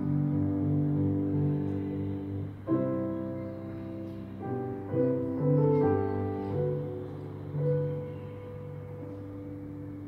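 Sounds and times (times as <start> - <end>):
grand piano chords: 0.0 - 10.0.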